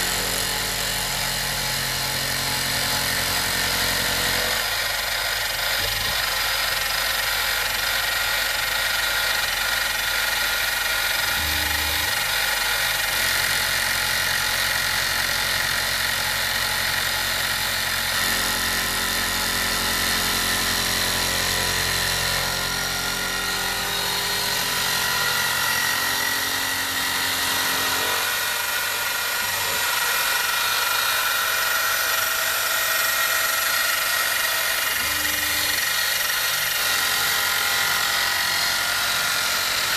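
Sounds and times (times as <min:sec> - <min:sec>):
milling machine motor whine: 0:00.0 - 0:16.2, 0:19.2 - 0:39.9.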